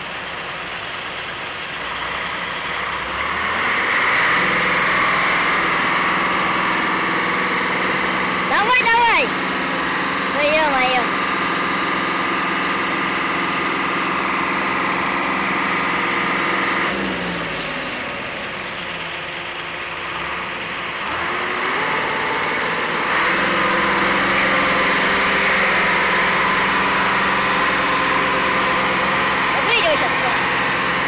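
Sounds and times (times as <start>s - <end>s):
dump truck diesel engine running: 0.0s - 31.0s.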